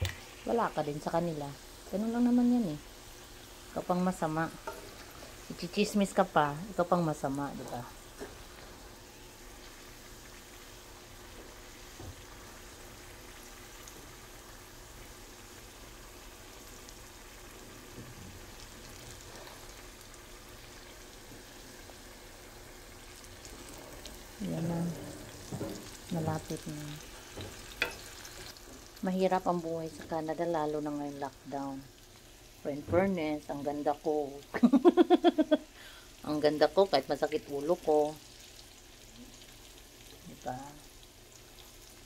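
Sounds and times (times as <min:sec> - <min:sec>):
bananas sizzling in oil: 0:00.0 - 0:42.0.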